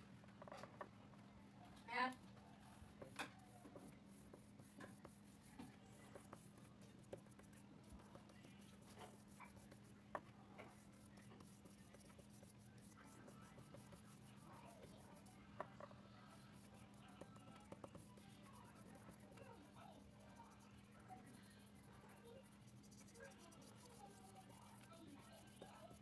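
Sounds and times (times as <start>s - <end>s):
paintbrush strokes on paper: 2.4s - 26.0s.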